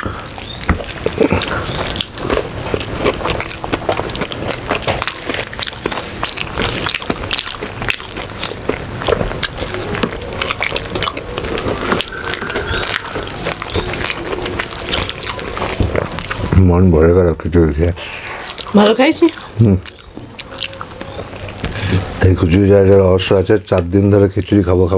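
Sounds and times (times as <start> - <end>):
lip smacks: 0.0 - 16.6, 18.0 - 22.3
wet chewing: 0.0 - 24.9.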